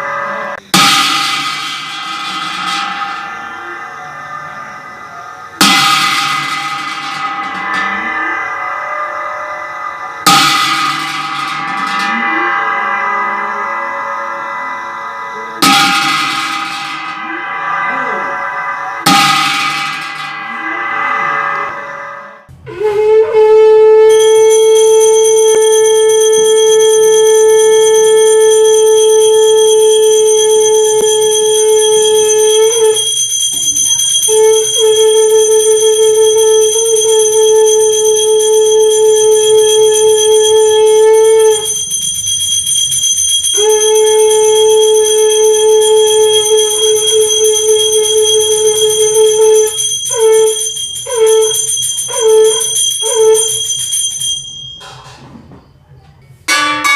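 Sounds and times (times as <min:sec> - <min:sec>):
conch shell blasts: 0:00.0 - 0:54.1, 0:56.5 - 0:56.9
high steady ringing tone: 0:00.0 - 0:56.9.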